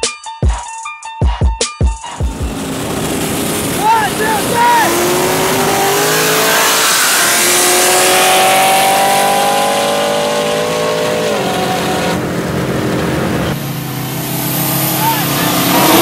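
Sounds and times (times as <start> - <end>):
engines at full throttle: 2.1 - 16.0.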